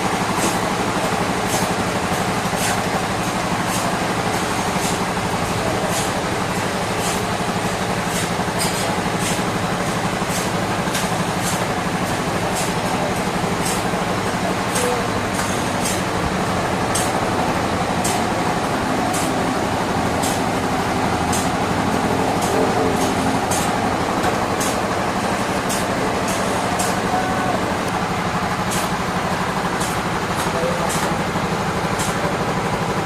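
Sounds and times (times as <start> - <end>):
sawmill machinery humming: 0.0 - 33.0.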